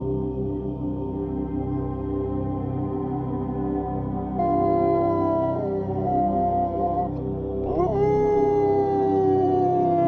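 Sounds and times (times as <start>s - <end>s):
ambient drone music: 0.0s - 10.0s.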